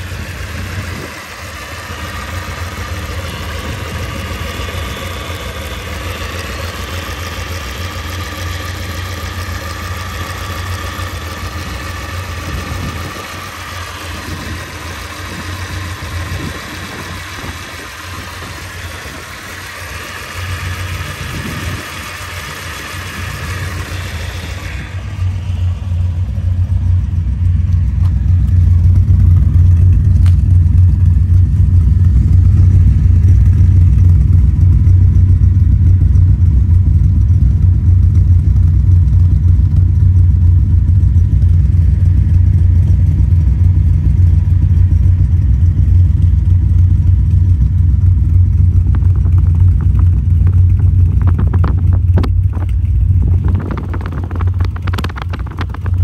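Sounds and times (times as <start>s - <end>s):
car exhaust running steadily: 0.0s - 56.0s.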